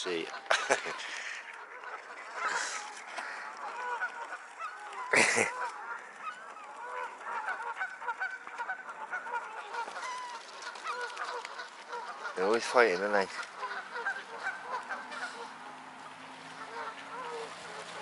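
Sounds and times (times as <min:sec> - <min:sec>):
swans calling: 0:00.0 - 0:18.0.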